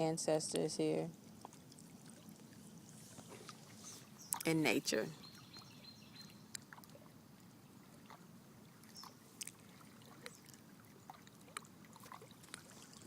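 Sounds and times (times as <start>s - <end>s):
water lapping: 1.1s - 13.0s.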